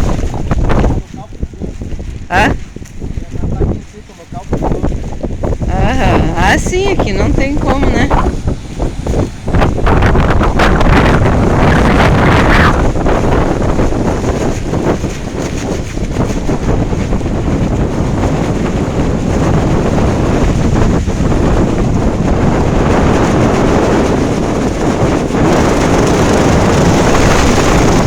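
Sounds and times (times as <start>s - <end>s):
wind buffeting the microphone: 0.0s - 28.0s.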